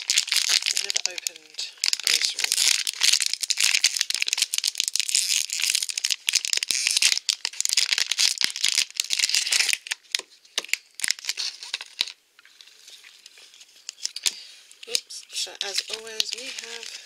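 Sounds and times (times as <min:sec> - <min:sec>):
foil wrapper crinkling: 0:00.0 - 0:17.0.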